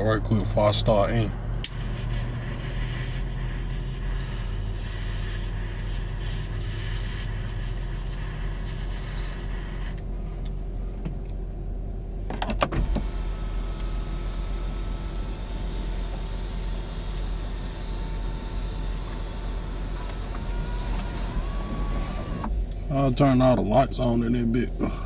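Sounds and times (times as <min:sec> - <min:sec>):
vehicle cabin hum: 0:00.0 - 0:25.0.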